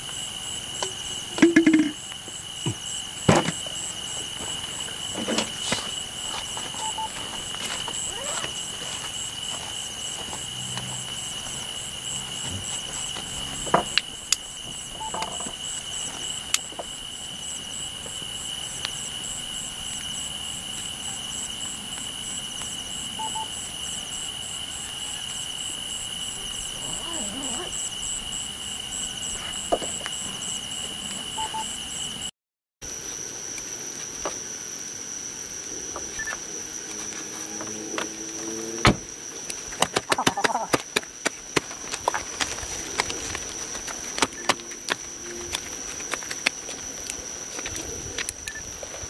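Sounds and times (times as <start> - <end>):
insect pulsing chirp: 0.0 - 32.3, 32.9 - 49.0
insects trilling: 0.0 - 49.0.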